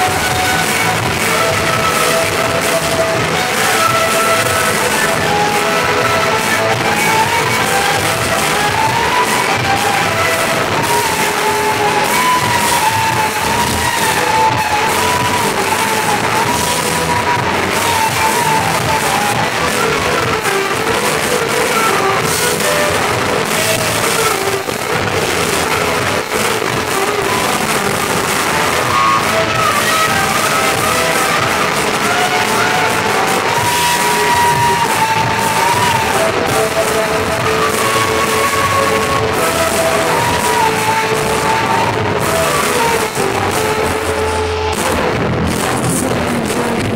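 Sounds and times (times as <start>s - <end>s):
electric guitar melody: 0.0s - 46.9s
live rock band playing: 0.0s - 46.9s.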